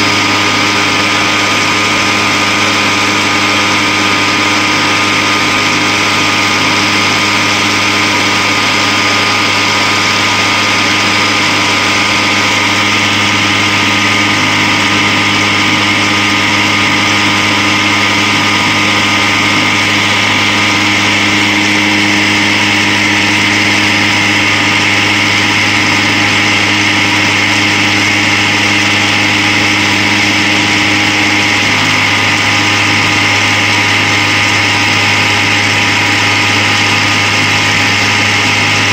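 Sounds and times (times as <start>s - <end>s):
centrifuge humming and whining: 0.0s - 38.9s.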